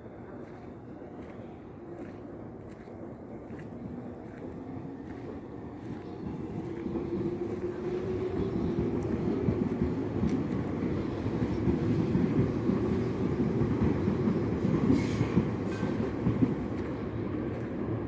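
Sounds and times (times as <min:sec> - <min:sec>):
electric train running past: 0:00.0 - 0:18.0
wheels rumbling on rail: 0:00.1 - 0:18.0.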